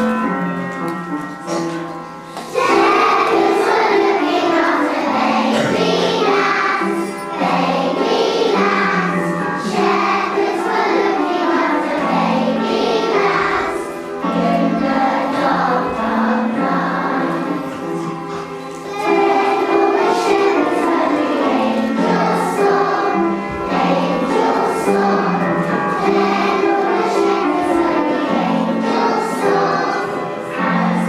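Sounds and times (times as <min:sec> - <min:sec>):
children's choir singing a carol: 0:00.0 - 0:31.0
instrumental accompaniment: 0:00.0 - 0:31.0.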